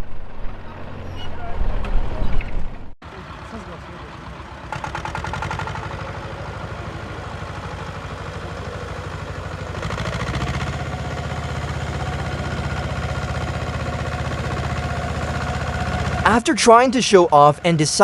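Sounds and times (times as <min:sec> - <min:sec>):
tractor diesel engine running hard: 0:03.0 - 0:18.0.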